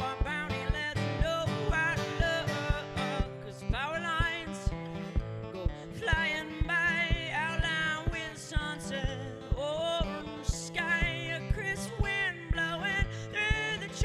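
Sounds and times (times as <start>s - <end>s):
man singing: 0.0s - 4.9s, 5.8s - 14.0s
acoustic guitar strumming: 0.0s - 14.0s.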